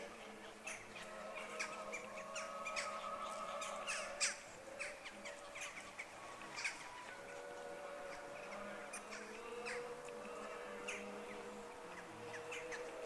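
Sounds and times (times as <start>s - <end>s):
birds calling: 0.0s - 13.0s
faint hum: 0.0s - 13.0s.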